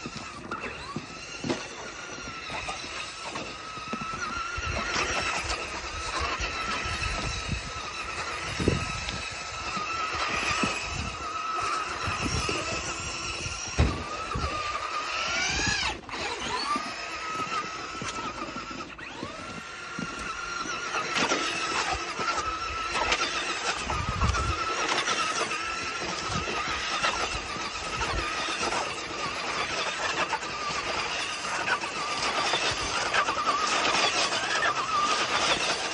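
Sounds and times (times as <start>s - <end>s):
toy truck electric motor whining: 0.0s - 35.9s.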